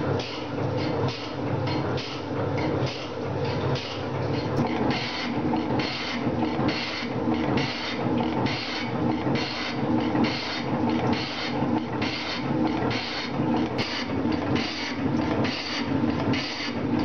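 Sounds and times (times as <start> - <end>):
metal shaper ram running: 0.0 - 17.0.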